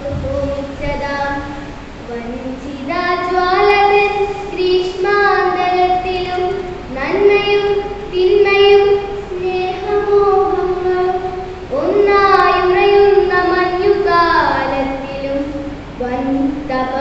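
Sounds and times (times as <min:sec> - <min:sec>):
girl chanting a poem: 0:00.0 - 0:17.0.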